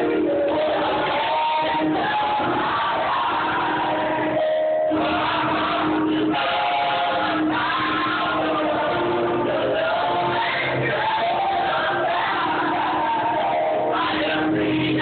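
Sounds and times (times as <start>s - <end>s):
group singing gospel music: 0.0s - 15.0s.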